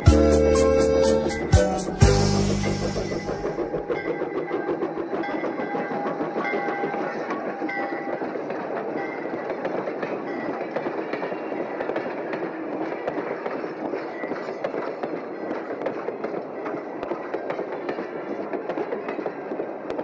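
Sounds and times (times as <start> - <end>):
train wheels rumbling on rail: 0.0 - 20.0
wheels clattering over rail joints: 0.0 - 20.0.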